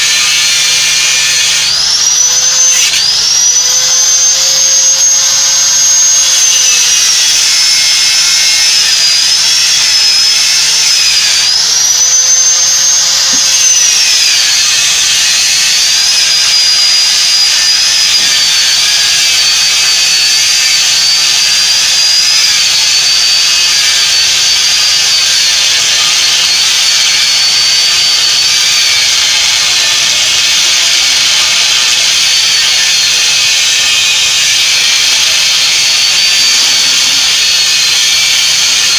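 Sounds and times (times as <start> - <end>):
power tool whining: 0.0 - 38.9.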